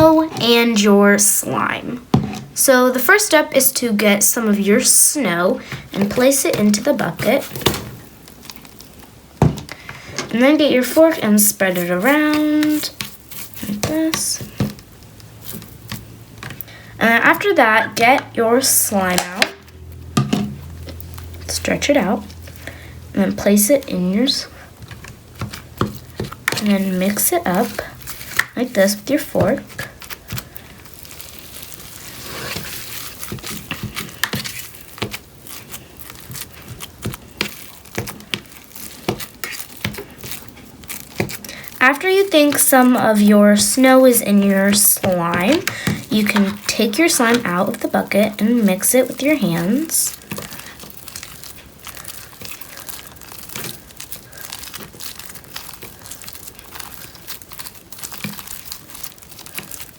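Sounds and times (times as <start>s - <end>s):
slime crackling when kneaded: 0.0s - 59.9s
fork mixing crunchy snow: 4.8s - 9.0s, 10.5s - 16.6s, 20.4s - 59.9s.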